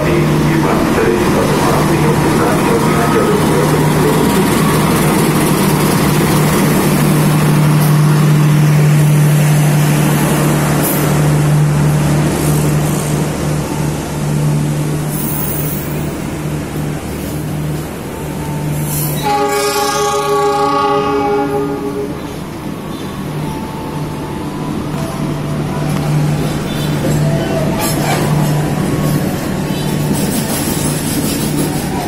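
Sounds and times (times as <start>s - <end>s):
diesel locomotive engine drone: 0.0s - 32.0s
passenger coaches rolling by: 0.0s - 32.0s.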